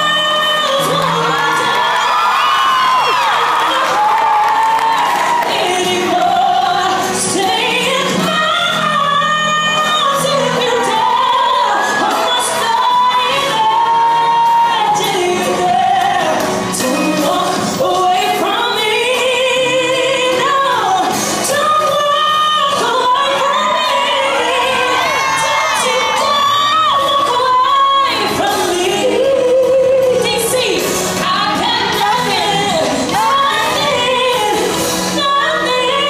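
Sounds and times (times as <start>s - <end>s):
backing music: 0.0s - 36.0s
person singing: 0.0s - 36.0s.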